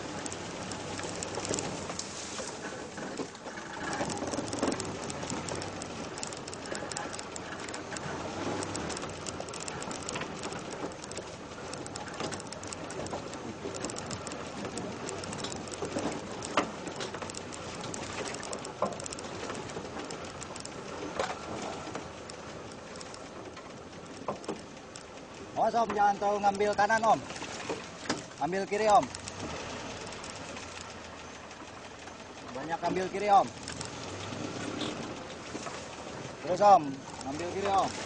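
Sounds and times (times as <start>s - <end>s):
vehicle engine and tyres rumbling: 0.0s - 38.0s.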